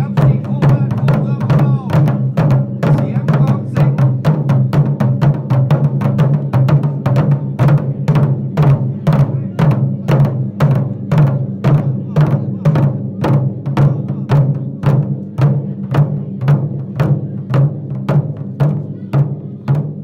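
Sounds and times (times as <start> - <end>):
fast percussion beat: 0.0 - 20.0.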